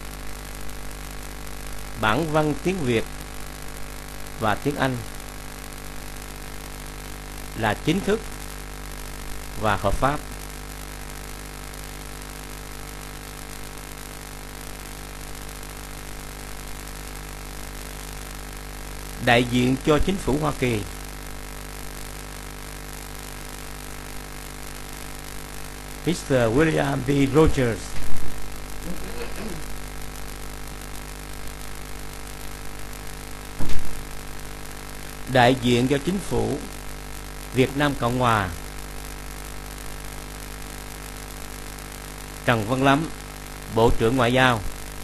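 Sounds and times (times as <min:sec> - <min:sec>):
electrical hum with hiss: 0:00.0 - 0:45.0.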